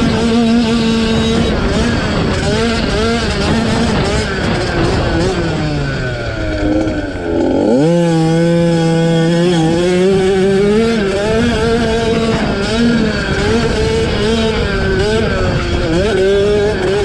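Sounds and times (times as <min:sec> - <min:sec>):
two-stroke motocross bike engine revving: 0:00.0 - 0:17.0.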